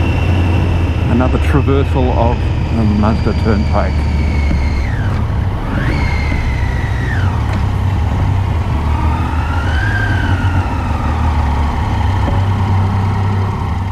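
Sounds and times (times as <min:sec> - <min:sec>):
low engine rumble: 0:00.0 - 0:13.9
motorcycle engine whine: 0:00.0 - 0:13.9.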